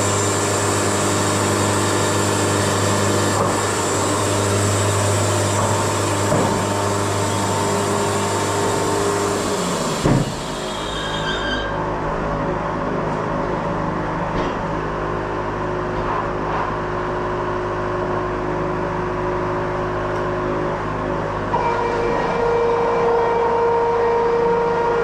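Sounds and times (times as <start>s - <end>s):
sawmill running with low hum: 0.0s - 25.0s.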